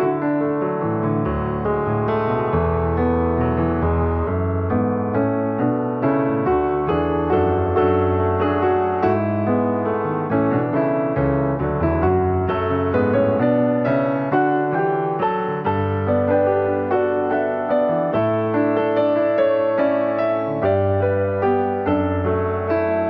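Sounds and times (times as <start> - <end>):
slow piano music: 0.0 - 23.0.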